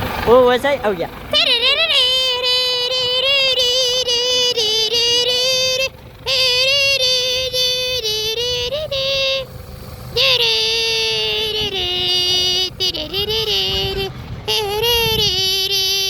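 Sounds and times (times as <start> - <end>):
high-pitched voice singing held notes: 1.3 - 16.0.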